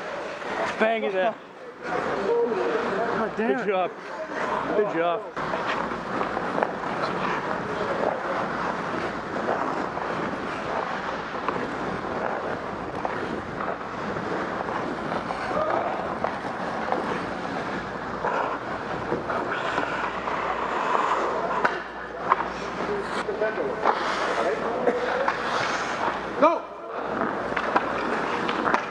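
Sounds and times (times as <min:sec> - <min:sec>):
skate blades scraping ice: 0:04.0 - 0:28.9.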